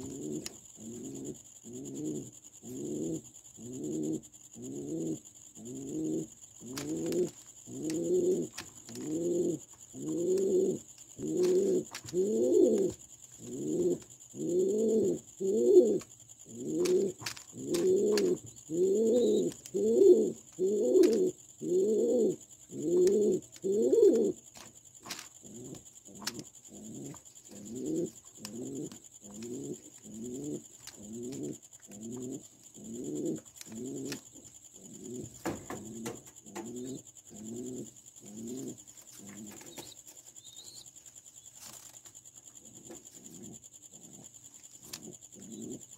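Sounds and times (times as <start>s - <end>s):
pigeon cooing: 0.0s - 24.4s, 25.1s - 40.8s.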